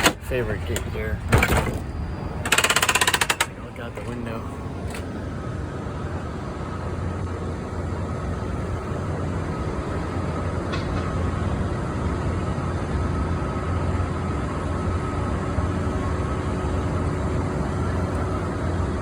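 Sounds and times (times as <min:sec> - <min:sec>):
faint steady whine: 0:00.0 - 0:19.0
low hum of aircraft systems: 0:00.0 - 0:19.0.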